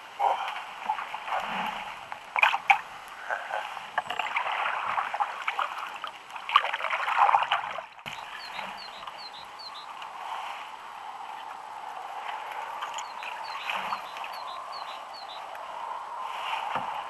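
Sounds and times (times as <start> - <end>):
paddle splashing in water: 0.2 - 10.6, 11.4 - 15.3.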